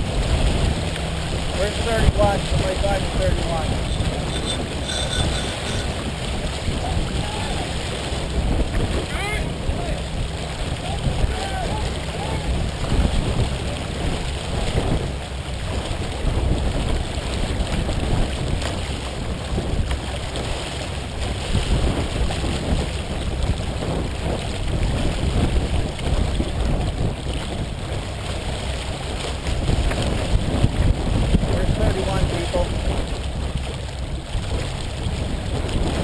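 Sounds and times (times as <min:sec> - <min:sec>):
water splashing along a hull: 0:00.0 - 0:36.0
wind buffeting microphone: 0:00.0 - 0:36.0.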